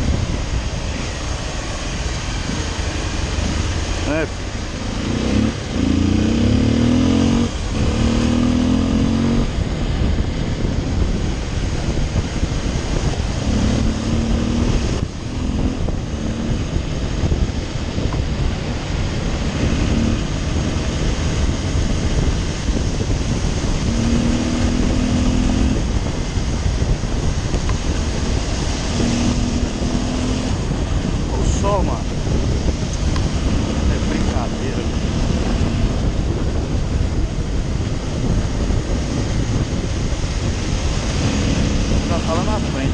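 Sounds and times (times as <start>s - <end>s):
heavy wind noise: 0.0s - 42.9s
motorcycle engine pulling hard: 0.0s - 42.9s.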